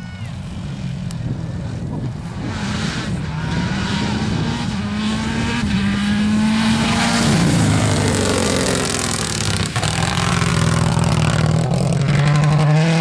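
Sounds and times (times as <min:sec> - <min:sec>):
rally car engine at hard throttle: 0:00.4 - 0:13.0.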